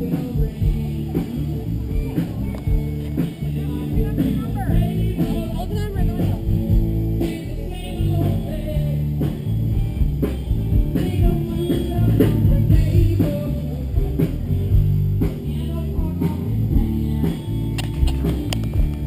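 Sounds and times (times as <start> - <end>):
rock and roll music: 0.0 - 19.0.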